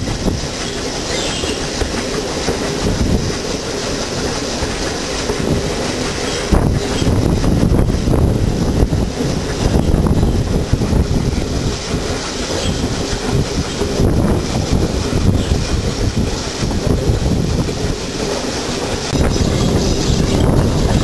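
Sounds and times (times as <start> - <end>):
train wheels on rails: 0.0 - 21.0
wind on microphone: 0.0 - 21.0.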